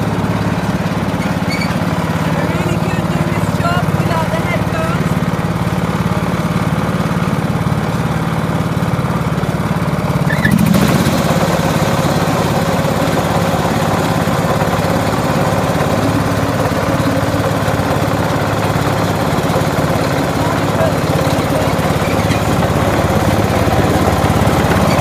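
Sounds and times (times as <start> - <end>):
ride-on lawn mower engine: 0.0 - 25.0.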